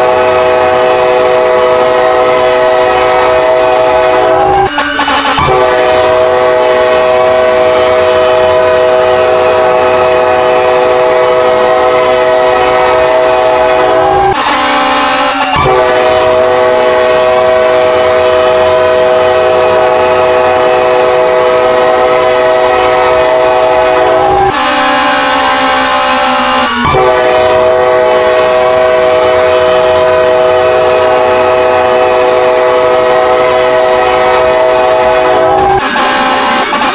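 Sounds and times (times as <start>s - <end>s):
siren wailing: 0.0s - 36.9s
train horn chord: 0.0s - 36.9s.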